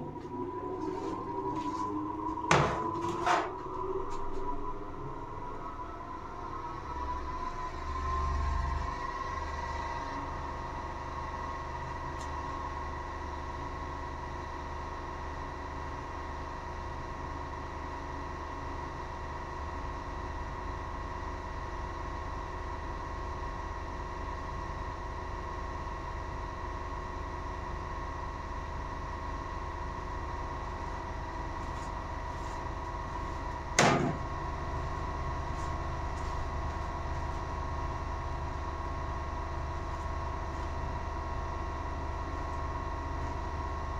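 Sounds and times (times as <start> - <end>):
machine humming and whining: 0.0 - 43.9.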